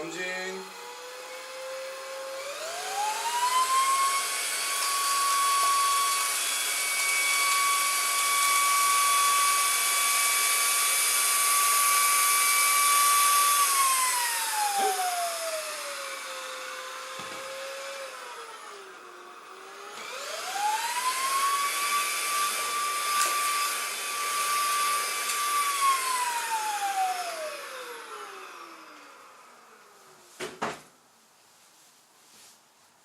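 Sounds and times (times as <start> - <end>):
vacuum motor whining: 0.0 - 30.4.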